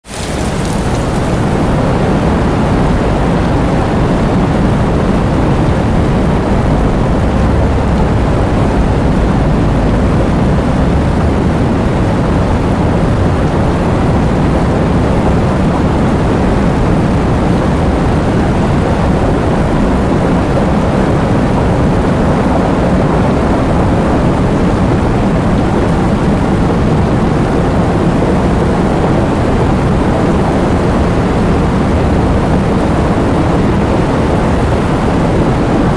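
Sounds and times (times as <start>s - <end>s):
heavy rain: 0.0s - 35.9s
strong wind: 0.0s - 35.9s.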